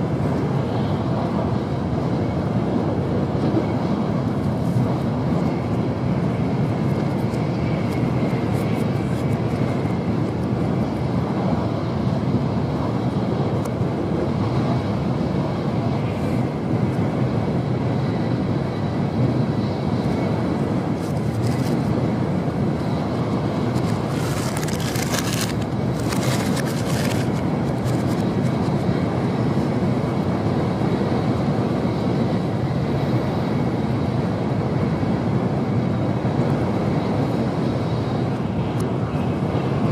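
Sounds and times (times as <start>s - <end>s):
train rumble inside passenger car: 0.0s - 39.9s.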